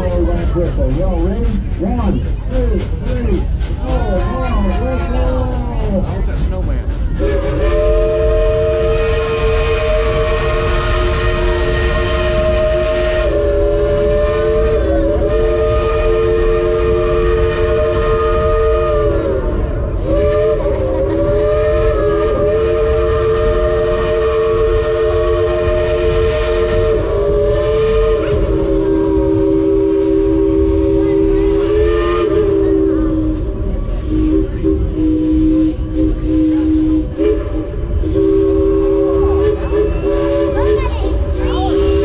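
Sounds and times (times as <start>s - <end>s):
steam train rumble and hiss: 0.0s - 42.0s
steam locomotive chime whistle: 7.2s - 42.0s.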